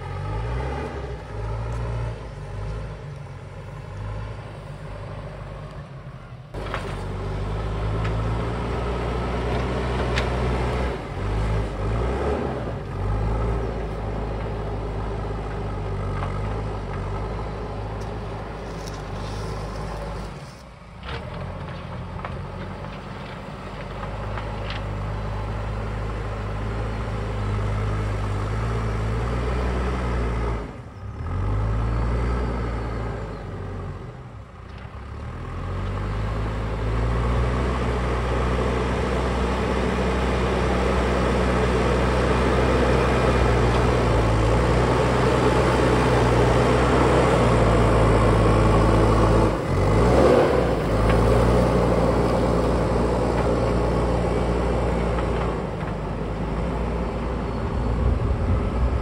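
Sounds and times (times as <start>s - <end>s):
backhoe diesel engine under load: 0.0s - 59.0s.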